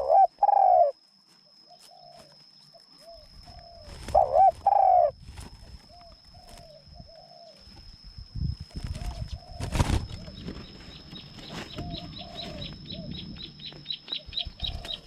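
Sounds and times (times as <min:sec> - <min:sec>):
dove cooing: 0:00.0 - 0:01.0, 0:01.6 - 0:02.4, 0:03.0 - 0:07.8, 0:08.7 - 0:15.0.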